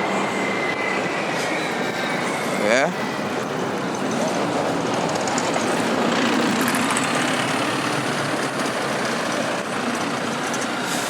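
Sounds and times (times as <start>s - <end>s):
heavy vehicle engine humming: 0.0s - 11.0s
street traffic noise: 0.0s - 11.0s.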